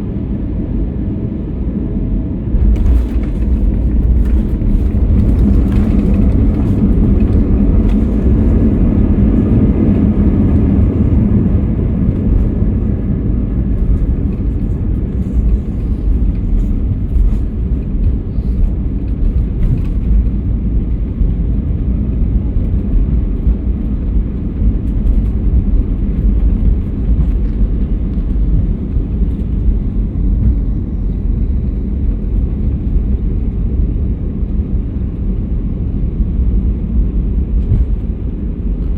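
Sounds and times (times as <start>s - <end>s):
jet engine and airflow rumble: 0.0s - 38.9s.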